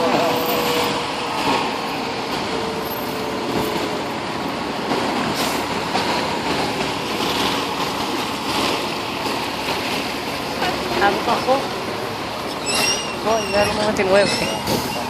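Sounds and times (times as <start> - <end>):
subway train running past: 0.0 - 15.0.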